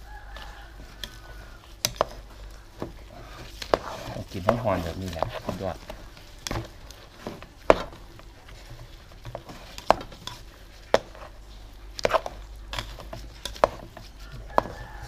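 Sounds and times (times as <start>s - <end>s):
rice paddle stirring rice: 0.0s - 15.0s.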